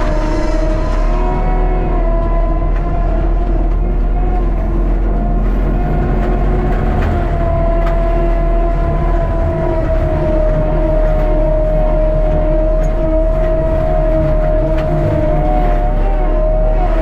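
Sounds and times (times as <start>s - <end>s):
diesel engine rumbling: 0.0s - 17.0s
forestry mulcher running: 0.0s - 17.0s
steady whine: 0.0s - 17.0s.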